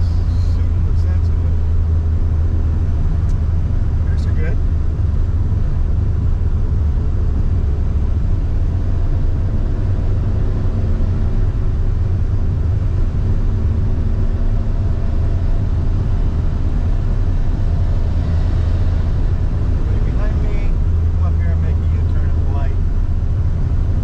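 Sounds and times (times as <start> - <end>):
car engine rumbling: 0.0 - 24.0
road and tyre noise: 0.0 - 24.0.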